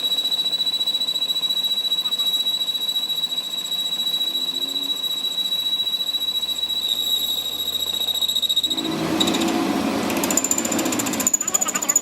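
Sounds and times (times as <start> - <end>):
machinery high-pitched whine: 0.0 - 12.0.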